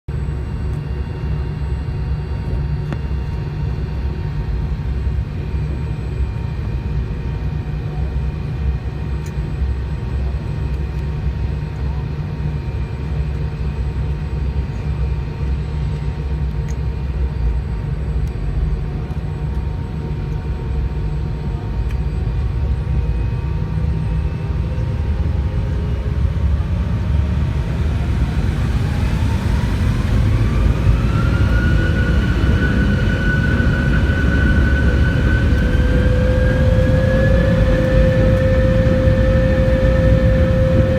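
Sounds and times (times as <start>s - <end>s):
jet engine whine climbing: 0.1s - 40.9s
jet engines rumbling in cabin: 0.1s - 40.9s.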